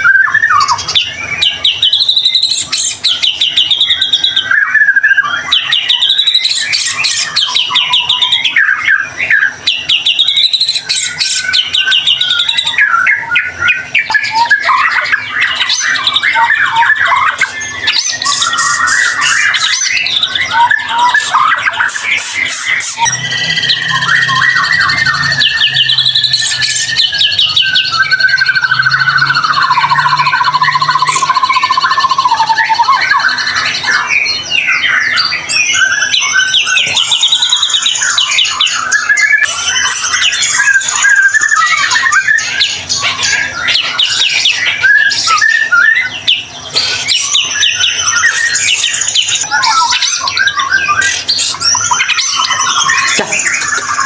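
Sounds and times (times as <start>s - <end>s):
songbird singing whistles and trills: 0.0s - 54.0s.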